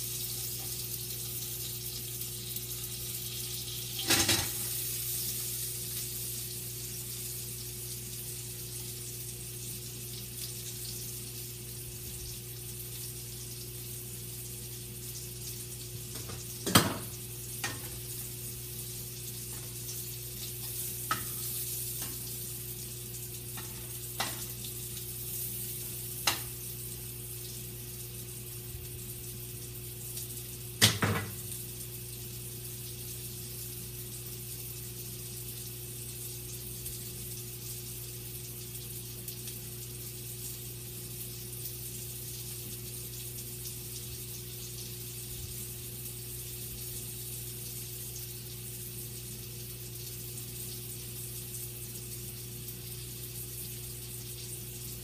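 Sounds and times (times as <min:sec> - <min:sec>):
sausage sizzling in a pan: 0:00.0 - 0:55.0.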